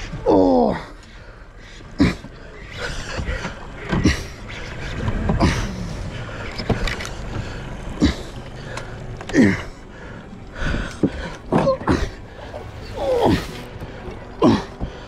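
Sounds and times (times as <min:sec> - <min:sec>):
boat low rumble: 0:00.0 - 0:15.0.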